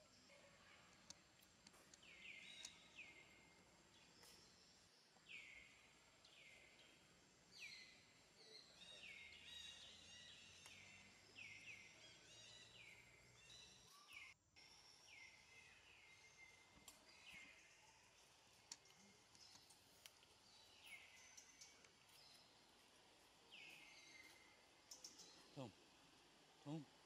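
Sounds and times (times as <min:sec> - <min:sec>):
faint whistled birdsong: 0:00.0 - 0:22.6, 0:23.5 - 0:25.8.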